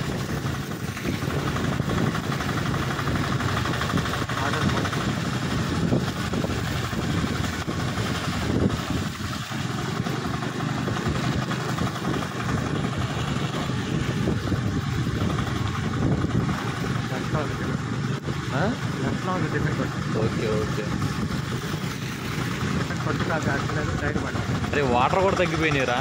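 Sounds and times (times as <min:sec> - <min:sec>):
car engine running: 0:00.0 - 0:26.0
tyres hissing on wet road: 0:00.0 - 0:26.0.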